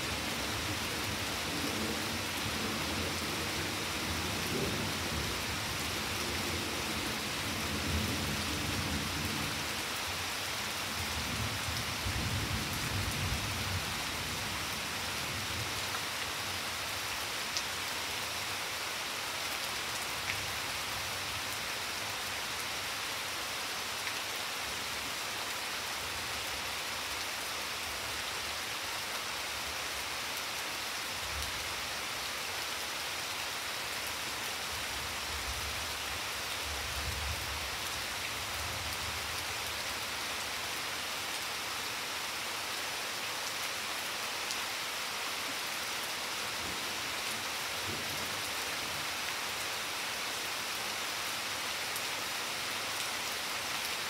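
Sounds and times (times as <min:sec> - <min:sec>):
steady rain on plants: 0:00.0 - 0:54.0.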